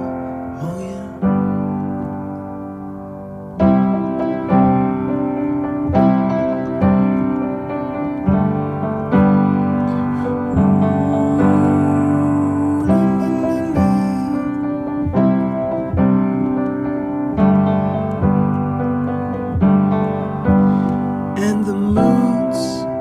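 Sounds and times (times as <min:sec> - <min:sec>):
piano playing sustained chords: 0:00.0 - 0:23.0.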